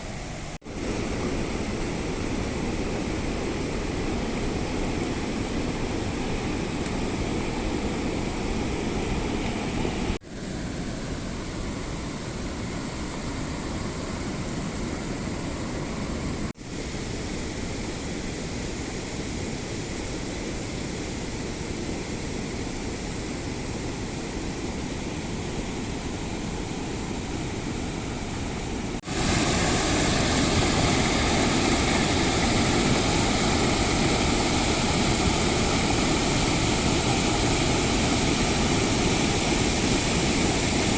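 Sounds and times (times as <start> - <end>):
waterfall roaring: 0.0 - 17.9, 20.3 - 40.9.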